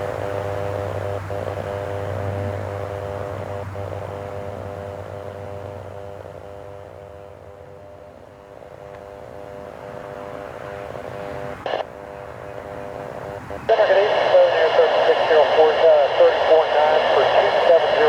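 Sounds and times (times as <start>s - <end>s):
distant aircraft engines droning: 0.0s - 18.0s.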